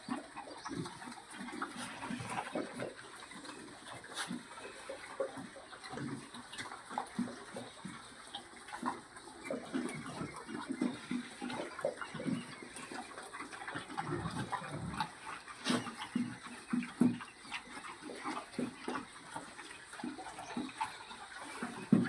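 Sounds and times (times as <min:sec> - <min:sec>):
pigs grunting: 0:00.0 - 0:22.0.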